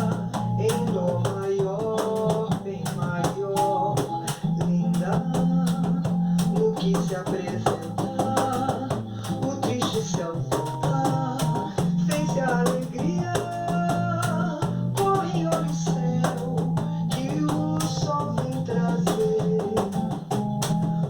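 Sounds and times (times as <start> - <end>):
cajon slaps: 0.0 - 21.0
samba song with acoustic guitar: 0.0 - 21.0.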